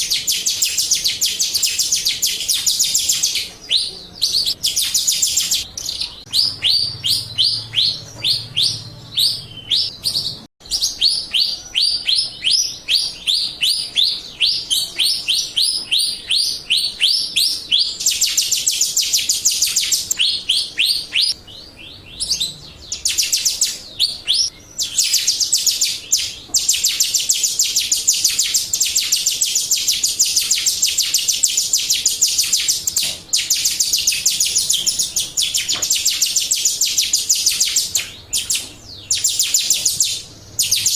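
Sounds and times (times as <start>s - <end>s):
starling chirping and trilling: 0.0s - 40.9s.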